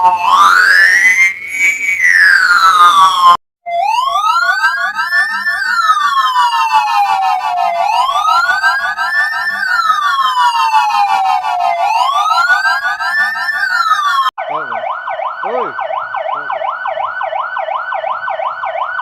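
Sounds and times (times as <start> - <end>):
electronic siren wailing: 0.0 - 19.0.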